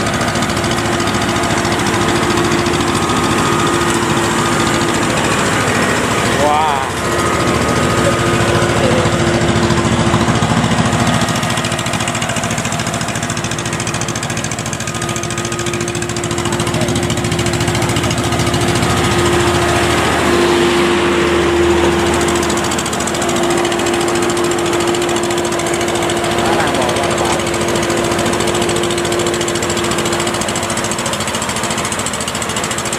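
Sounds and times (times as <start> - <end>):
diesel engine humming: 0.0 - 32.9.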